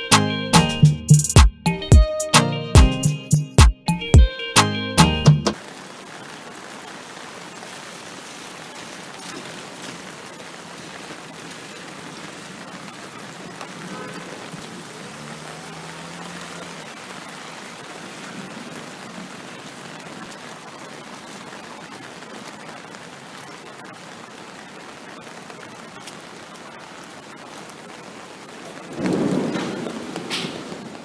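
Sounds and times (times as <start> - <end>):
rushing outdoor noise: 5.5 - 31.0.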